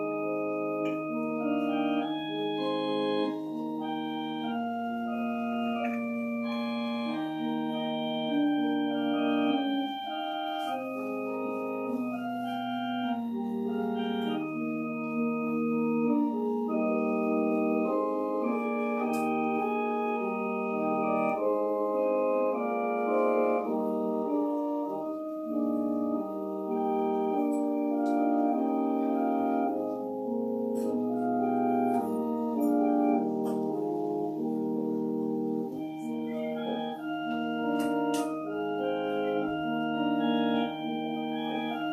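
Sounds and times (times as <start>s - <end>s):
organ playing held chords: 0.0s - 41.9s.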